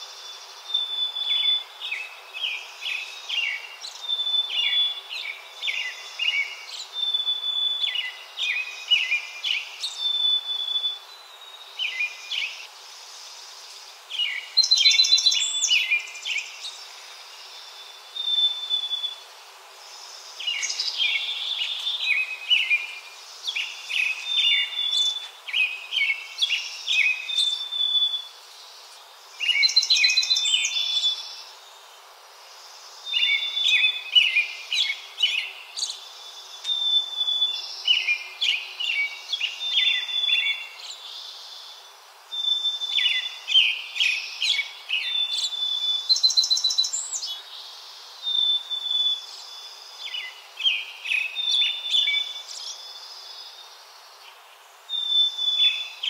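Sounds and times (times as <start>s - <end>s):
small songbird singing: 0.0s - 56.0s.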